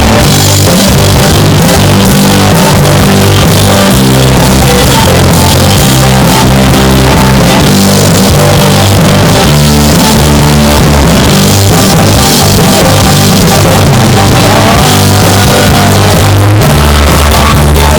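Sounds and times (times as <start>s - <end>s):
distorted live rock band: 0.0s - 17.9s.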